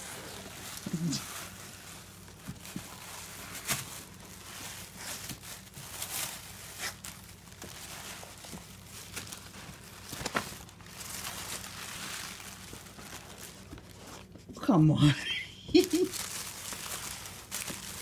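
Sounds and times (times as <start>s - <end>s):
sharp paper crackles: 0.0s - 14.3s, 15.8s - 18.0s
tissue paper rustling and crinkling: 0.0s - 18.0s.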